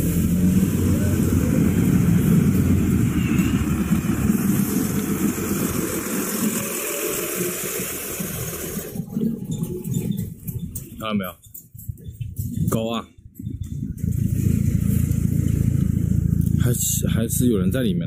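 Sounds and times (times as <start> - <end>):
car engine running: 0.0 - 11.2, 13.3 - 18.0.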